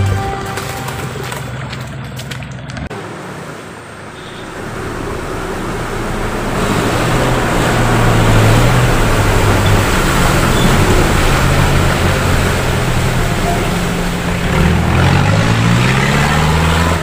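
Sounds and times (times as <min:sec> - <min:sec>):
mud and water churning under tyres: 0:00.1 - 0:17.0
car engine working hard: 0:01.3 - 0:17.0.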